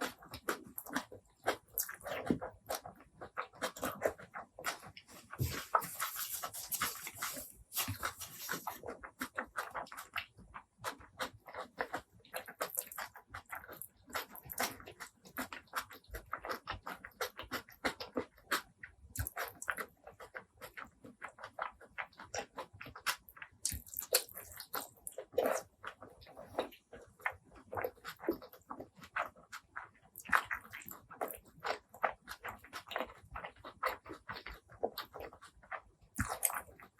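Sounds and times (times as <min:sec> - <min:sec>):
wet chewing and lip-smacking: 0:00.0 - 0:36.9.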